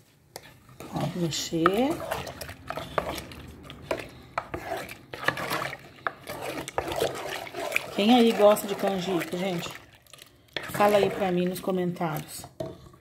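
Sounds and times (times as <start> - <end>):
wooden spoon scraping a pot: 0.0 - 13.0.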